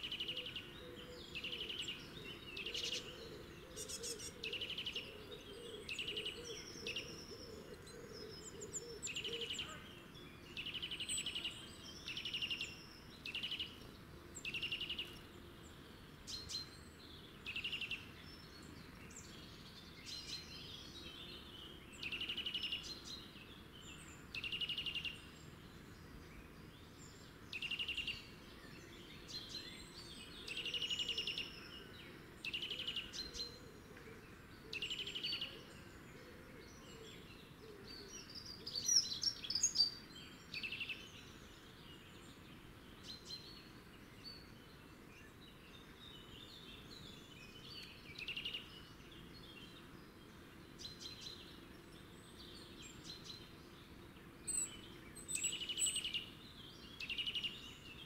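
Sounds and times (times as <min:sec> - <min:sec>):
faint outdoor background: 0:00.0 - 0:58.0
songbirds singing trills: 0:00.0 - 0:58.0.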